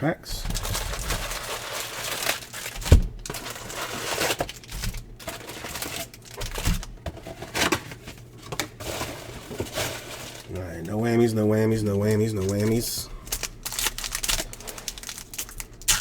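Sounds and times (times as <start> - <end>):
foil wrappers crinkling and tearing: 0.3 - 11.0, 11.7 - 16.0.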